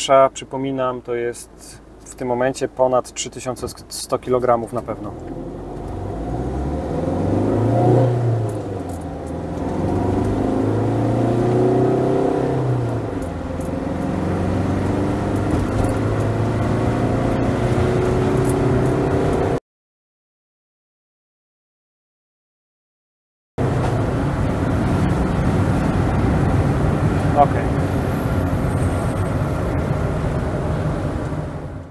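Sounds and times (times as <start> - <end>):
diesel van engine accelerating: 0.0 - 19.6, 23.6 - 31.9.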